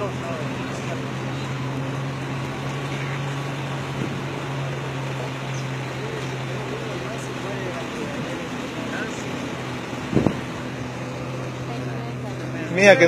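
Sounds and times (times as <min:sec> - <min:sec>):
road and wind noise: 0:00.0 - 0:13.0
vehicle engine humming: 0:00.0 - 0:13.0.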